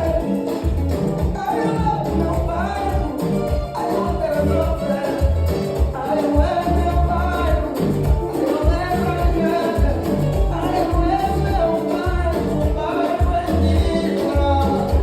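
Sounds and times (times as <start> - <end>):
dance music with singing: 0.0 - 15.0.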